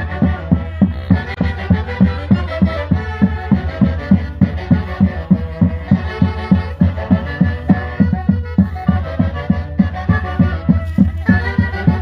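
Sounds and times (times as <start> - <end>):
live band dance music: 0.0 - 12.0
saxophones playing tune: 0.0 - 12.0
steady low beat: 0.0 - 12.0.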